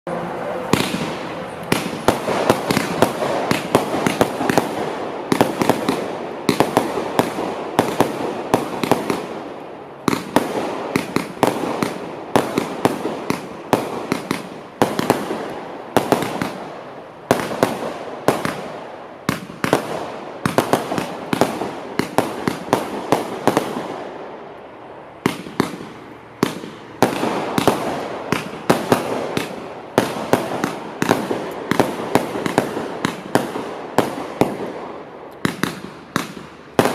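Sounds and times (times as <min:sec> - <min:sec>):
firework shots and bursts: 0:00.6 - 0:24.5, 0:25.2 - 0:36.9.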